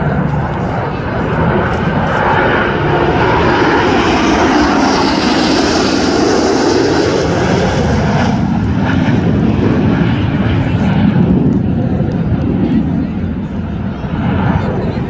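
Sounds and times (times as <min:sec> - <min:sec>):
jet engine noise: 0:00.0 - 0:15.0.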